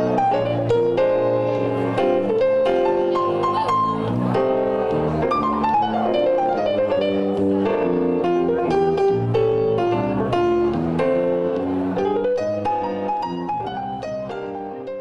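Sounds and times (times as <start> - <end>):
piano accompaniment: 0.0 - 15.0.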